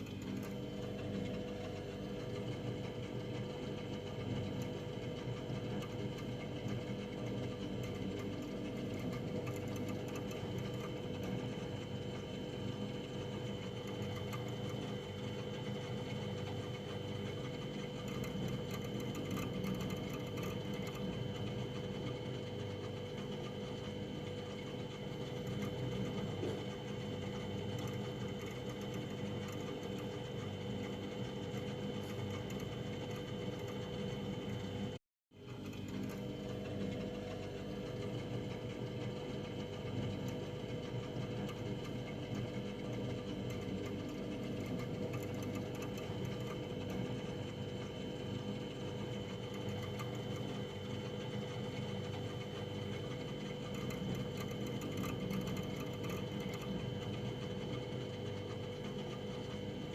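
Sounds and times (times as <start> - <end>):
freezer humming: 0.0 - 59.9.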